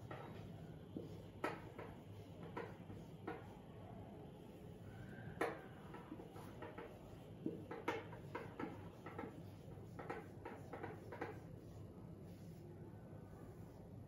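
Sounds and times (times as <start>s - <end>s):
marker pen writing on whiteboard: 0.0s - 3.7s, 5.4s - 12.7s, 13.4s - 13.8s.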